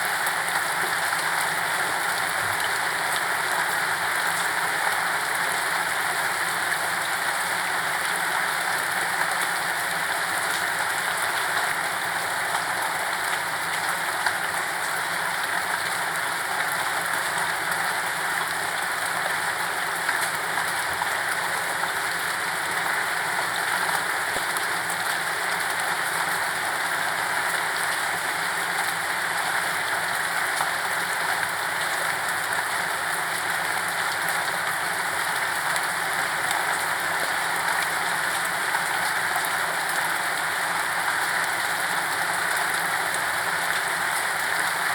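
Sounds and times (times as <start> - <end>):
steady rain hissing: 0.0 - 44.9.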